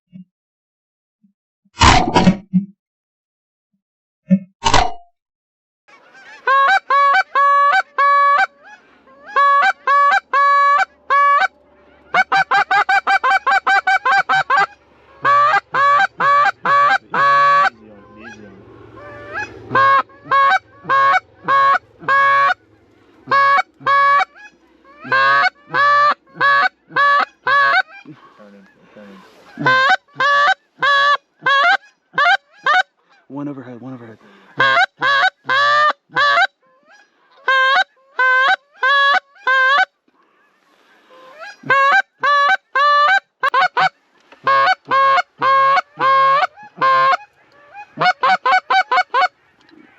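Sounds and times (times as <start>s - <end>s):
goose call clucks: 5.9s - 33.3s, 34.2s - 49.9s
goose call honks: 5.9s - 33.3s, 33.9s - 39.9s, 40.6s - 49.9s.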